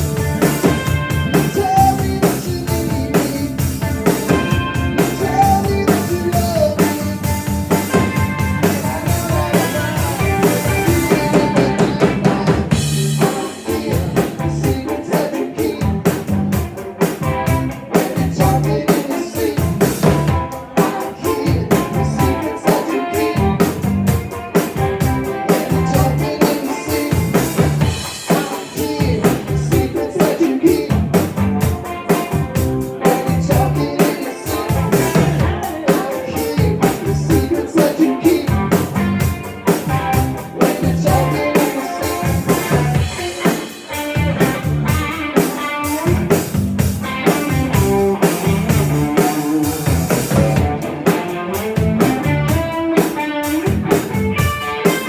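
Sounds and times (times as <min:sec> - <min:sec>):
drum kit beat: 0:00.0 - 0:55.0
rock band playing: 0:00.0 - 0:55.0.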